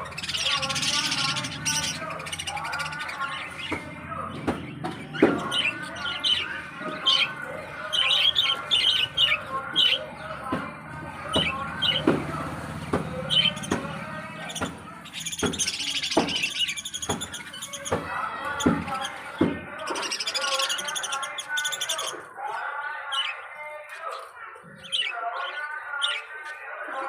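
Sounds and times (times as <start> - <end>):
budgerigars chirping: 0.0 - 22.2.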